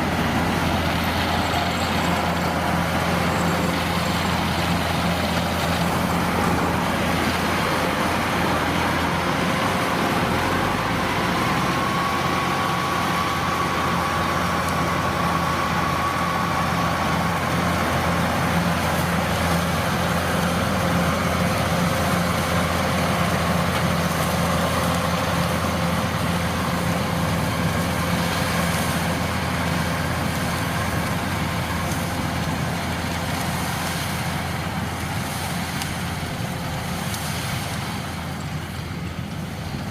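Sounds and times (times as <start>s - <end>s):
combine harvester humming: 0.0s - 39.9s.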